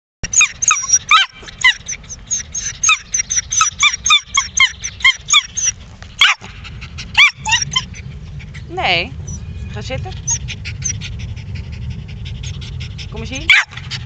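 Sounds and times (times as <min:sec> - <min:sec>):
dog yipping and whining: 0:00.2 - 0:11.3, 0:13.3 - 0:14.0.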